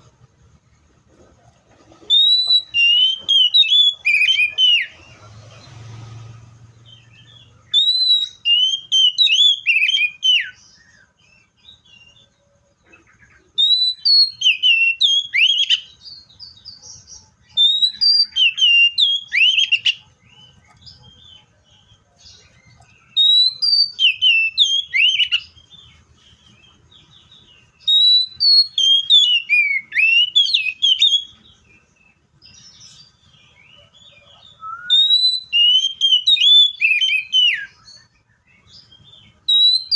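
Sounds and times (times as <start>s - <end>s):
bird singing whistled phrases: 2.1s - 5.0s, 6.9s - 12.3s, 13.3s - 25.9s, 27.2s - 31.8s, 32.5s - 39.9s.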